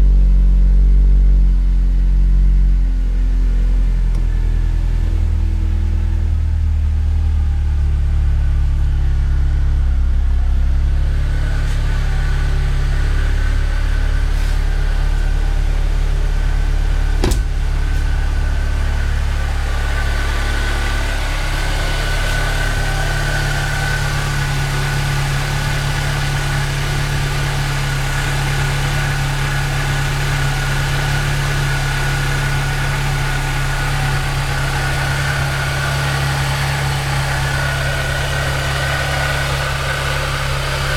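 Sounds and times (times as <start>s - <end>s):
car engine idling: 0.1s - 40.9s.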